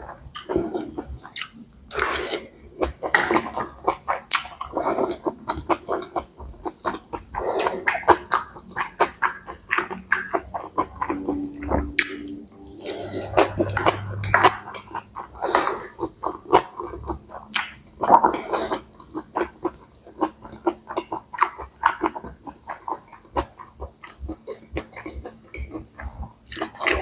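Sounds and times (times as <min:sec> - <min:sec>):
chewing with wet mouth clicks: 0:00.3 - 0:12.4, 0:13.3 - 0:27.0.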